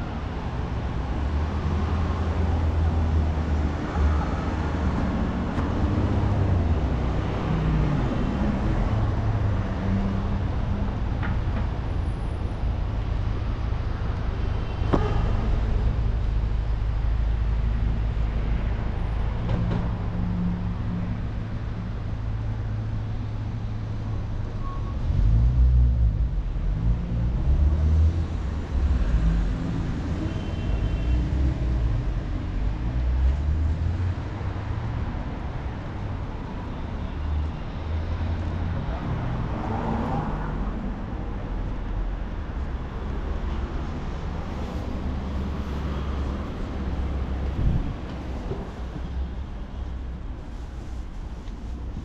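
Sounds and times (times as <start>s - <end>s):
cars passing with engine rumble: 0.0s - 52.0s.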